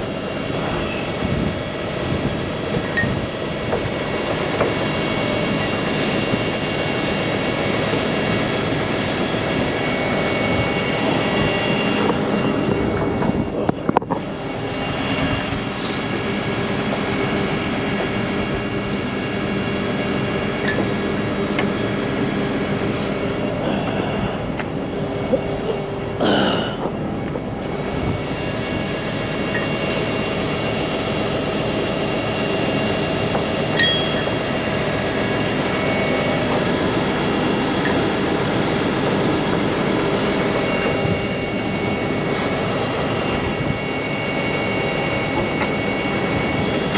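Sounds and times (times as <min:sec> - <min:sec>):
diesel truck engines droning: 0:00.0 - 0:46.9.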